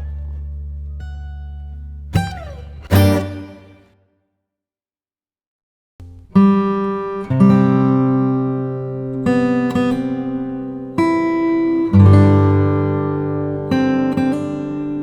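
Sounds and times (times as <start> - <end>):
acoustic guitar strumming chords: 0.0 - 4.0, 6.0 - 15.0.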